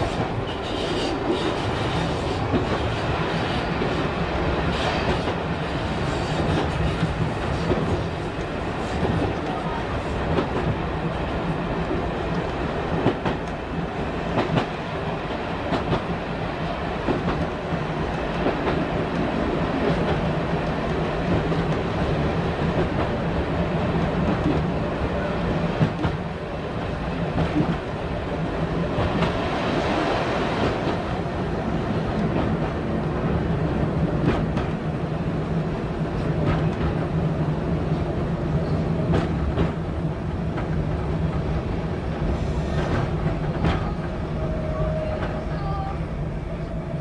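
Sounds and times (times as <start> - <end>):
train engine drone: 0.0 - 47.0.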